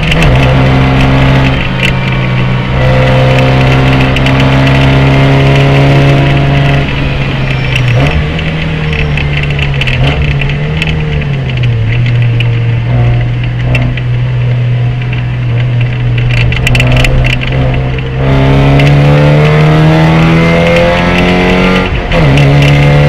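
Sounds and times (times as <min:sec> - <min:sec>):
rattling clicks: 0:00.0 - 0:19.0
race car engine: 0:00.0 - 0:23.0.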